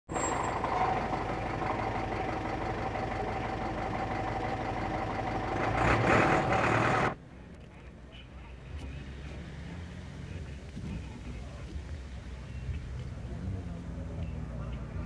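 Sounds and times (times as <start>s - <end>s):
engine running with hum: 0.1s - 15.0s.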